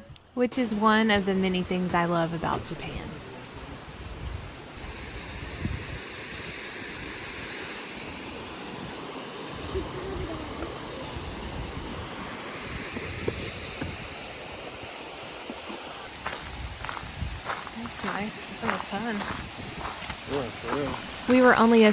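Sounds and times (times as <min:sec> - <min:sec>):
stream water rushing: 0:03.0 - 0:21.9.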